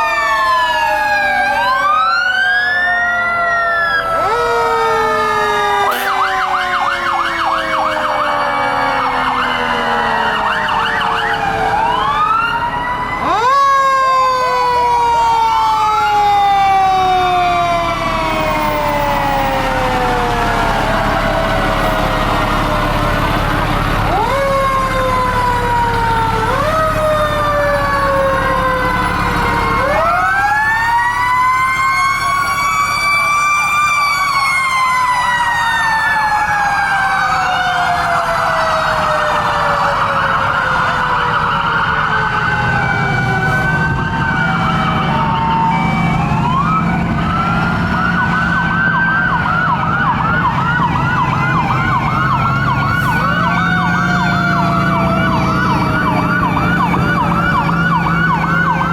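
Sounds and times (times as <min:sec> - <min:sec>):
fire truck sirens wailing: 0:00.0 - 0:58.9
truck engines rumbling: 0:00.0 - 0:58.9.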